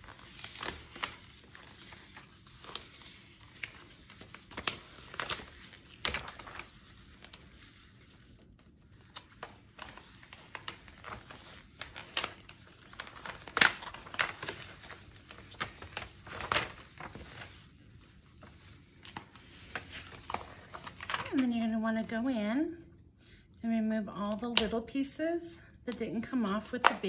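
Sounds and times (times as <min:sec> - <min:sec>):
vinyl sheet crinkling and crackling: 0:00.0 - 0:22.1, 0:25.9 - 0:27.0.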